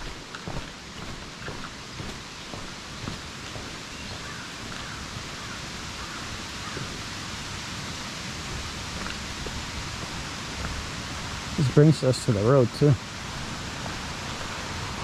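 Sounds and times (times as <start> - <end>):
light footsteps on trail: 0.0 - 15.0
waterfall rushing: 0.0 - 15.0.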